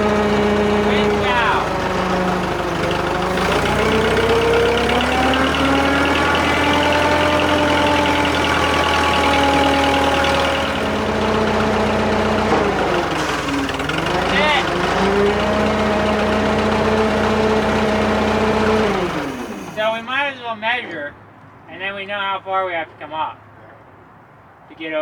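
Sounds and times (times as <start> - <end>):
crane engine under hydraulic load: 0.0 - 20.6.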